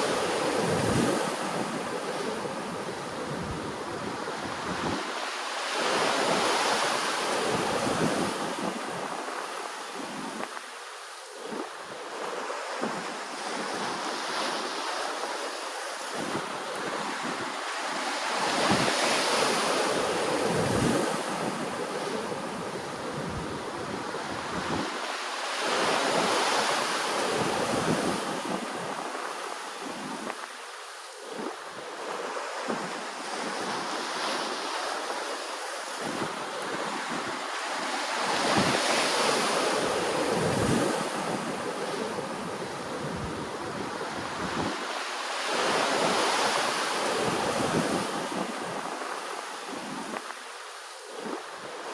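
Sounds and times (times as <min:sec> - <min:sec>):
ocean waves washing ashore: 0:00.0 - 0:51.9.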